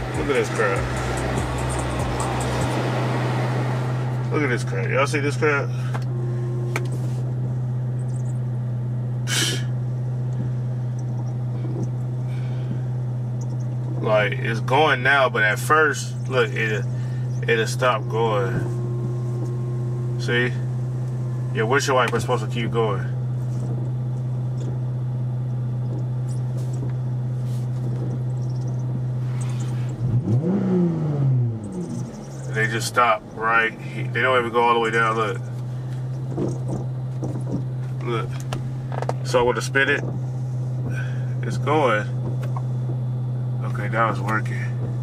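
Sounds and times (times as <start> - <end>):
windshield wipers squeaking: 0.0 - 8.6, 9.3 - 30.6, 31.5 - 45.0
car engine idling hum: 0.0 - 45.0.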